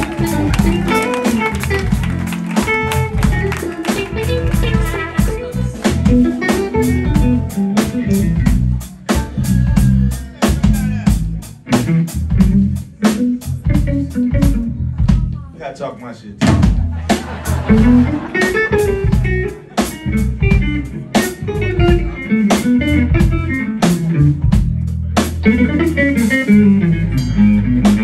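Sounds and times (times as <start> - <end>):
drum kit cymbal beat: 0.0 - 15.4, 16.4 - 28.0
electric guitar: 0.0 - 15.5, 17.1 - 28.0
electric bass: 0.0 - 15.6, 16.4 - 28.0.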